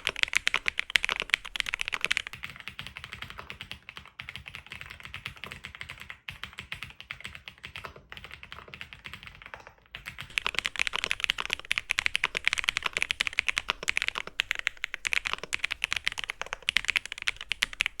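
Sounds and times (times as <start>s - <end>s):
mechanical keyboard typing: 0.0s - 18.0s.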